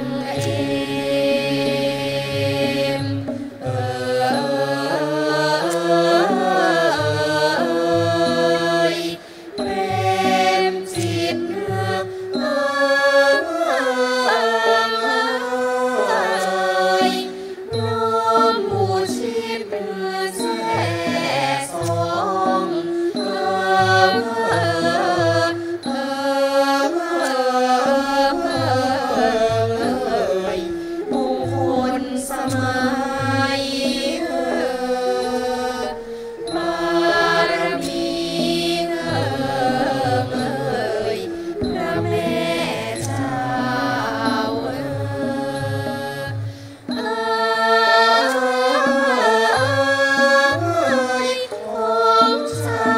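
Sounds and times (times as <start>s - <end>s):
bamboo flute: 0.0s - 52.9s
male chorus singing: 0.0s - 52.9s.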